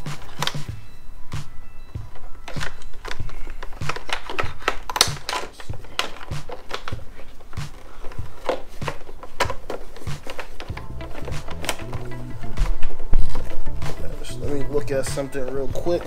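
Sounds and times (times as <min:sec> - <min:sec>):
background music beat: 0:00.0 - 0:16.0
small parts and tools clattering: 0:01.8 - 0:16.0.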